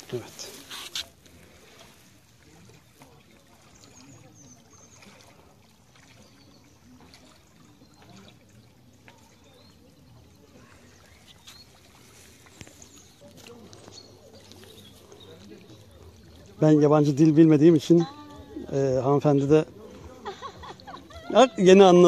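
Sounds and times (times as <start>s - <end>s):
water trickling into a pool: 0.0s - 22.0s.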